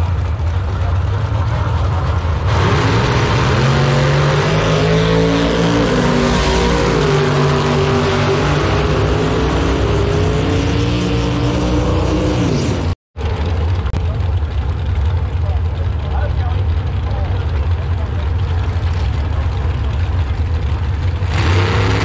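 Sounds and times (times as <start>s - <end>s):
drag race cars at full throttle: 0.0s - 22.0s.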